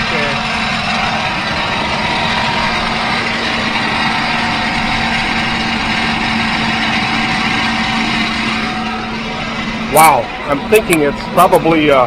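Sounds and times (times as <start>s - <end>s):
engine bearing screech: 0.0s - 12.0s
van engine roaring: 0.0s - 12.0s.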